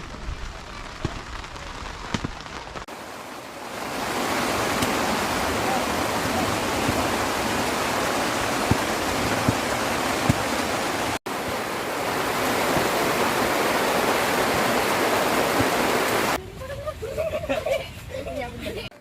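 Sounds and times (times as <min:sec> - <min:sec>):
heavy rain falling: 0:00.0 - 0:16.8.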